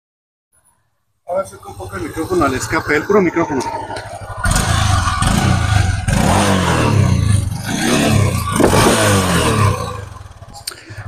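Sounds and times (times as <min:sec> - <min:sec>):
motorcycle engine revving: 0:01.3 - 0:11.0.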